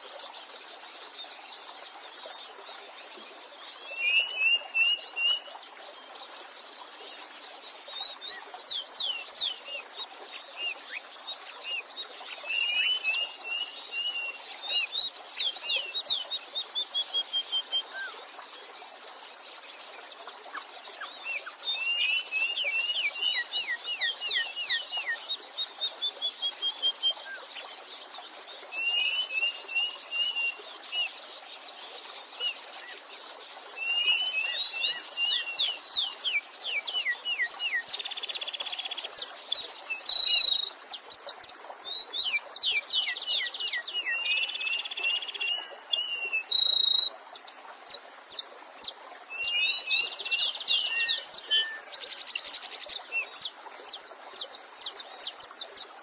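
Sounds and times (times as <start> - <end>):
small stream rushing: 0.0 - 56.0
songbirds singing: 0.0 - 56.0.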